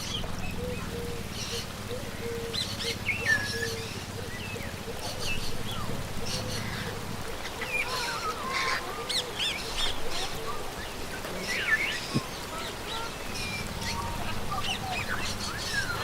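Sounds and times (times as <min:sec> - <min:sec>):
birds chirping and whistling: 0:00.0 - 0:16.0.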